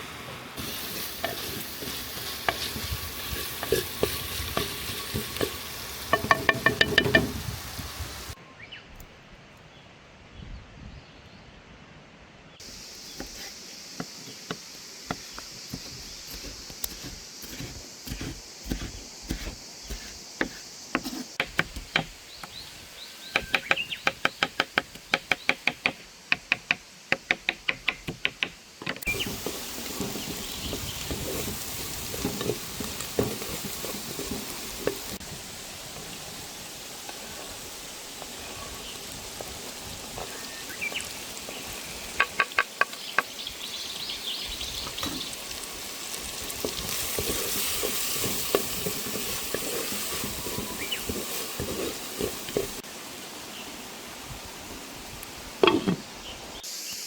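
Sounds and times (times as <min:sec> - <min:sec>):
food sizzling over a fire: 0:00.0 - 0:08.4, 0:12.6 - 0:57.0.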